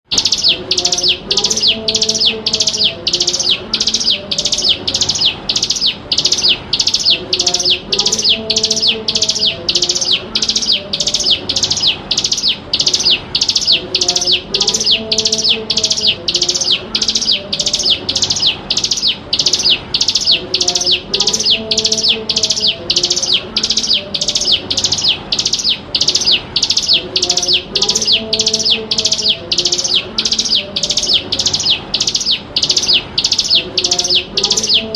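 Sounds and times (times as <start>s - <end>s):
bird calling in sharp high notes: 0.1s - 34.9s.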